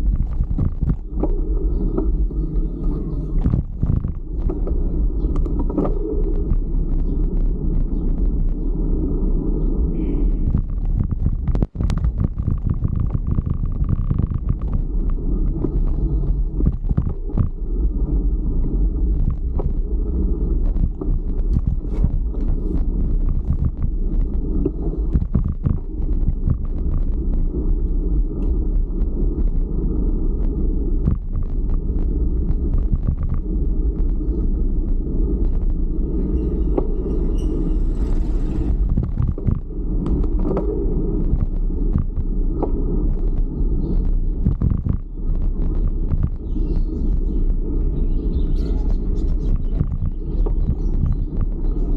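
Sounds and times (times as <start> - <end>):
road noise: 0.0 - 51.9
wind buffeting microphone: 0.0 - 51.9.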